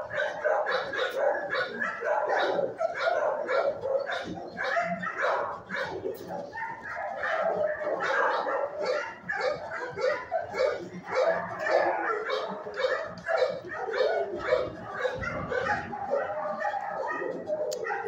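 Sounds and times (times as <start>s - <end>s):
dogs barking: 0.0s - 18.0s.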